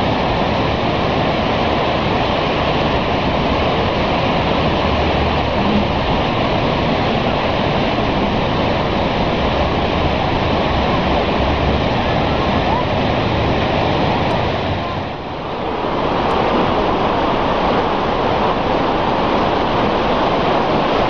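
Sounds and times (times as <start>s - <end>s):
fast river water rushing: 0.0s - 21.0s.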